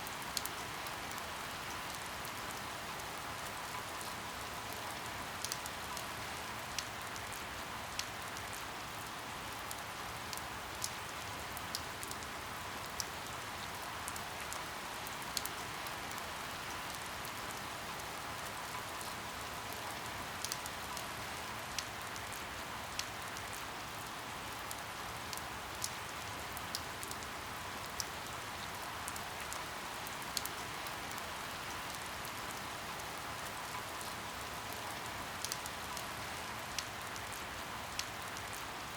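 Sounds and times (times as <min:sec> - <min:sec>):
rain drop ticks: 0:00.0 - 0:01.2, 0:01.8 - 0:06.1, 0:06.7 - 0:16.1, 0:16.7 - 0:21.1, 0:21.7 - 0:38.8
steady rain falling: 0:00.0 - 0:38.9.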